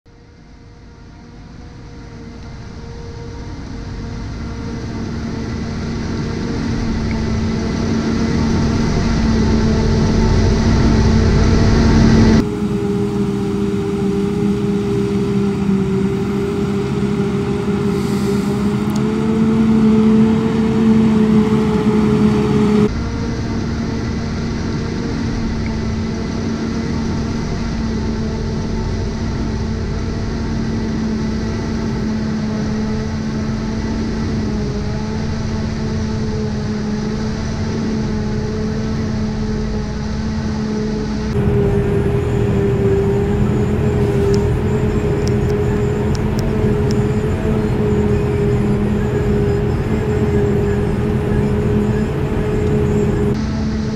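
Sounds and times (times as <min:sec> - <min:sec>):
machine hum: 0:00.1 - 0:53.9.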